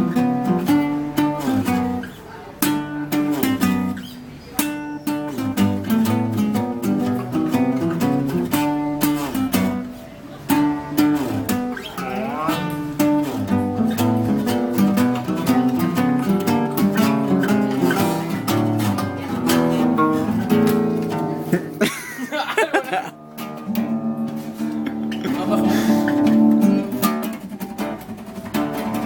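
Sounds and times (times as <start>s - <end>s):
acoustic guitar duet: 0.0s - 29.0s.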